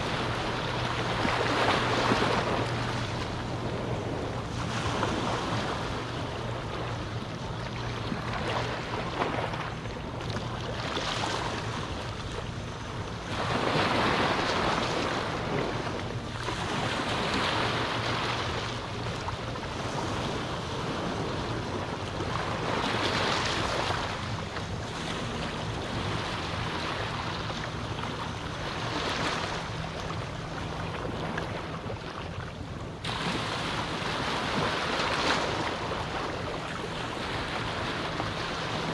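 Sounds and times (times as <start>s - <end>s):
small waves washing onto beach: 0.0s - 38.9s.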